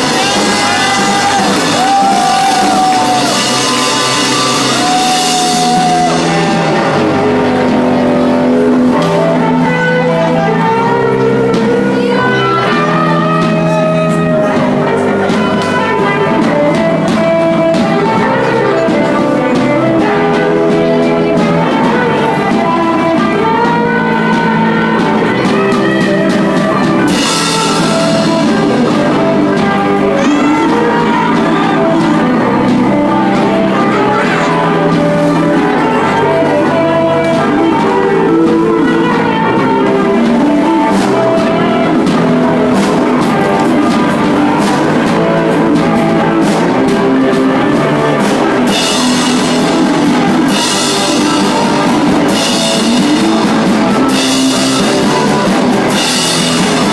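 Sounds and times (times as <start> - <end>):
bass: 0.0 - 56.9
drums: 0.0 - 56.9
electric guitars: 0.0 - 56.9.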